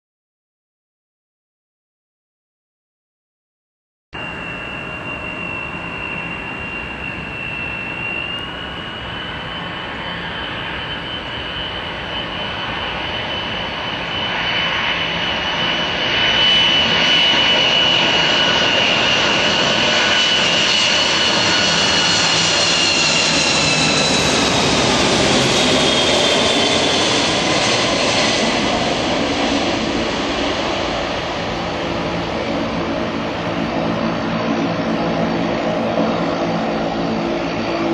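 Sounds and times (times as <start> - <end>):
jet engines passing: 4.2 - 37.9.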